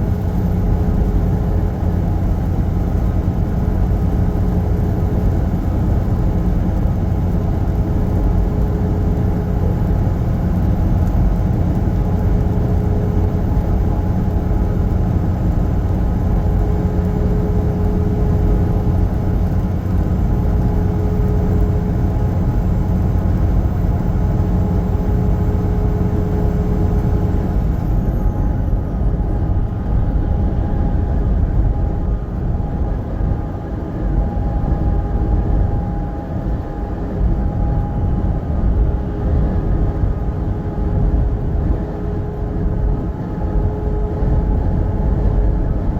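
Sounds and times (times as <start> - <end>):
truck engine and road noise: 0.0 - 45.9.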